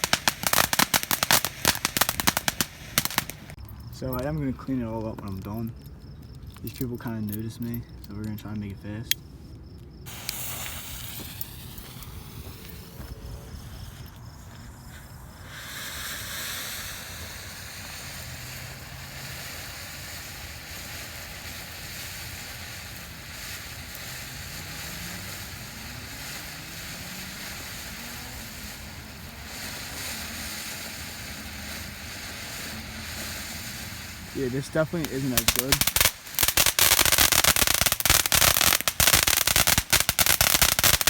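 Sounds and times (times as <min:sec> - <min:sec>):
firework fountain hissing sparks: 0:00.0 - 0:03.6, 0:10.0 - 0:41.0.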